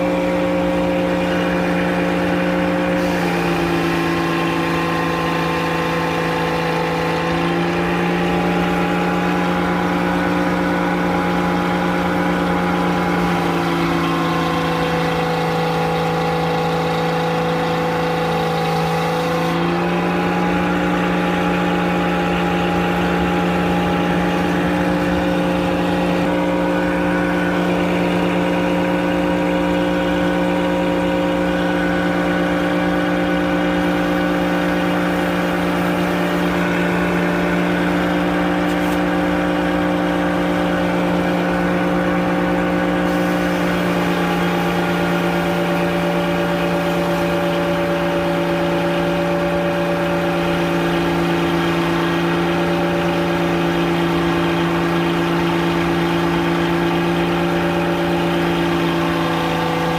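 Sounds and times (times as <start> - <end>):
sawmill mechanical hum: 0.0 - 59.9.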